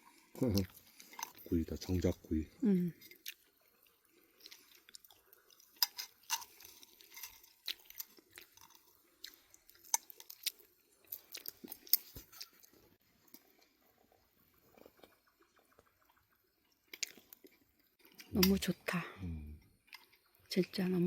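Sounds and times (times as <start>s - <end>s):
person chewing crunchy food: 0.0s - 18.6s, 19.6s - 20.5s.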